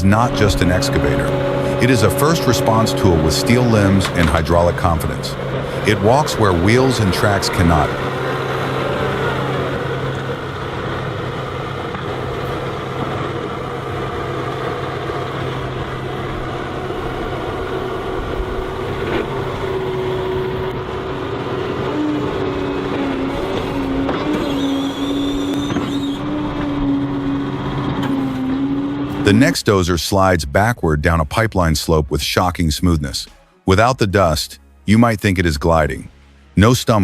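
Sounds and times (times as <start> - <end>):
heavy machine engine running: 0.0 - 29.8
whining tone: 0.0 - 29.8.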